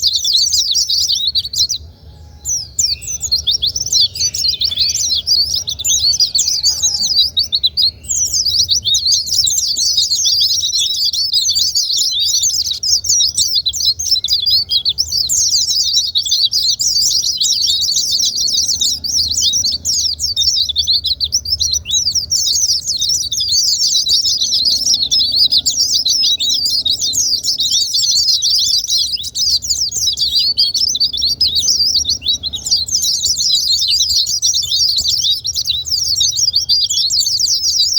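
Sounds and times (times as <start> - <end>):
bird twittering chirps: 0.0 - 37.9.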